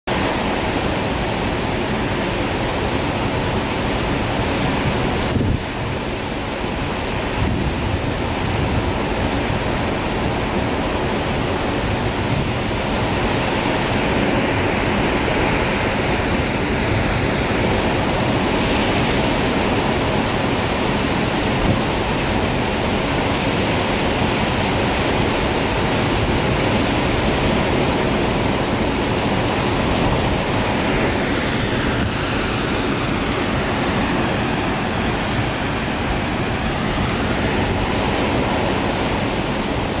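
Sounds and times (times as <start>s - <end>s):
surf: 0.1s - 40.0s
waterfall rushing: 0.1s - 40.0s.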